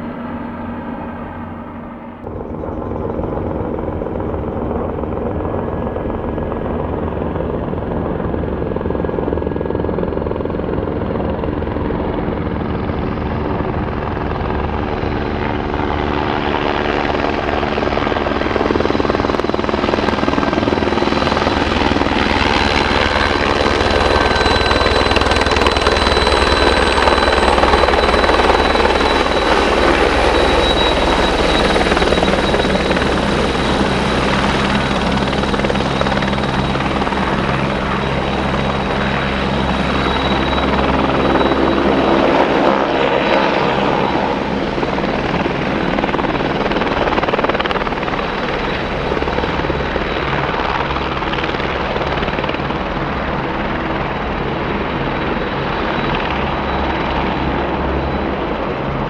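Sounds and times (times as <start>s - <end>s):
helicopter rotor chop: 0.0s - 59.0s
high turbine whine: 0.0s - 59.0s.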